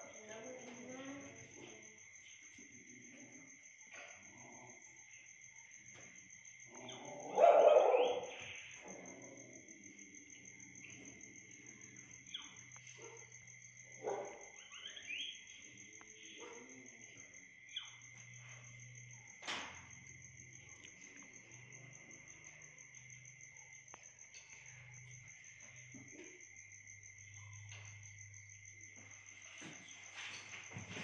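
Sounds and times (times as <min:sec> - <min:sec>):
insect chirping: 0:00.0 - 0:31.0.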